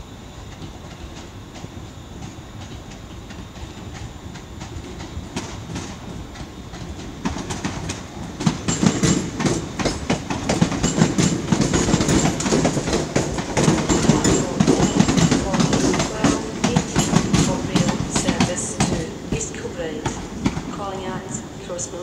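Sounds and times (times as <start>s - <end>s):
train rumbling past: 0.0s - 22.0s
wheels clattering over rail joints: 2.9s - 21.3s.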